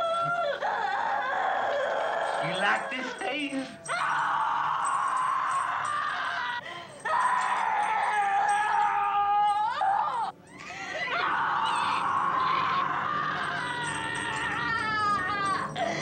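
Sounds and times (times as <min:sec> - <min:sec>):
woman screaming: 0:00.0 - 0:16.0.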